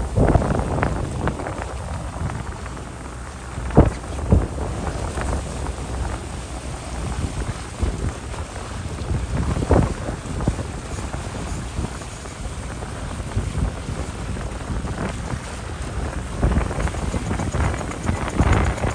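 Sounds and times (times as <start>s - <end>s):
boat and water rushing: 0.0s - 18.9s
wind buffeting microphone: 0.0s - 18.9s.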